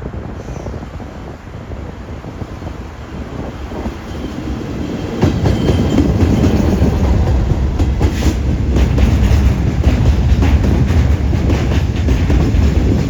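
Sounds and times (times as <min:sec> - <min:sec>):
freight train rumbling: 0:00.0 - 0:13.0
wheels clacking over rail joints: 0:02.0 - 0:13.0.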